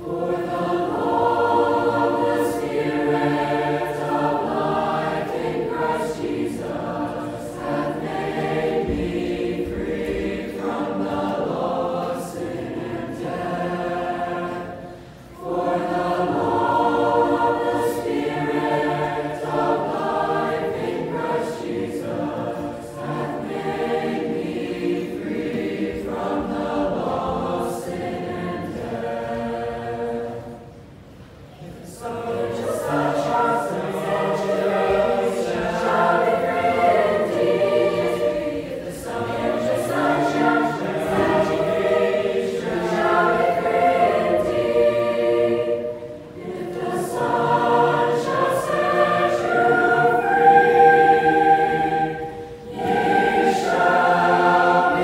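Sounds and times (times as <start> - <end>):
youth choir singing unaccompanied: 0.0 - 55.0.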